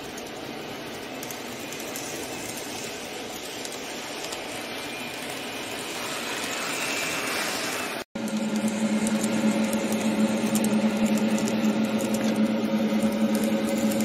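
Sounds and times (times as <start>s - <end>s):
faint motor whine: 0.0s - 14.0s
model train rolling on track: 0.0s - 14.0s.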